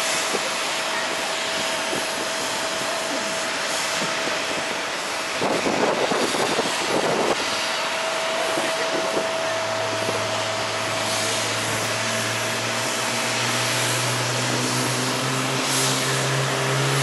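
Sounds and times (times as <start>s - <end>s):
jet engines roaring with whine: 0.0s - 17.0s
rush of noise: 0.0s - 17.0s.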